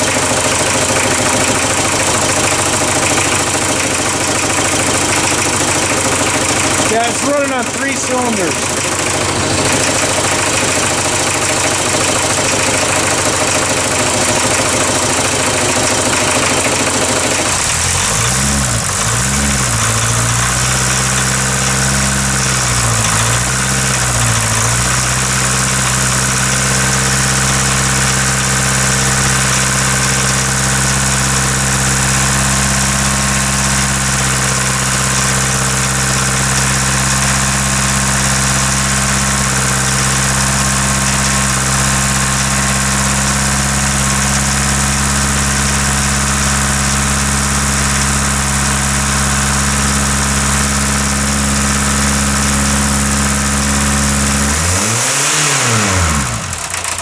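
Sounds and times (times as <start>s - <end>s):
diesel engine idling rough: 0.0s - 57.0s.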